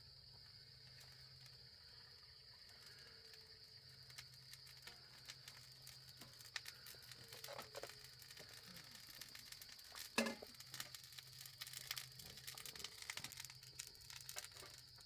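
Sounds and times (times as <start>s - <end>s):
insects chirring at night: 0.0s - 15.0s.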